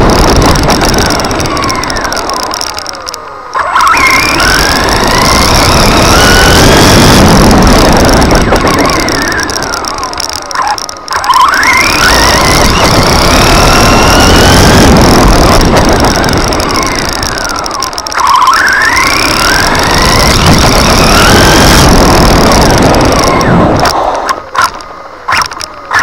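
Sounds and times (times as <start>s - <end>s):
electric motor whining: 0.0s - 26.0s
road and tyre noise: 0.0s - 26.0s.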